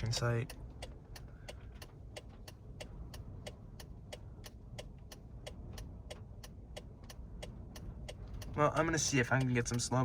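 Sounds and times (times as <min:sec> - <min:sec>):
car turn signal ticking: 0:00.0 - 0:10.0
low car cabin rumble: 0:00.0 - 0:10.0.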